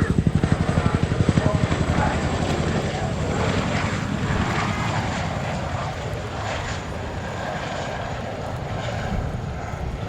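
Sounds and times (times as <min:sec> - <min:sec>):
helicopter rotors and turbines: 0:00.0 - 0:10.0.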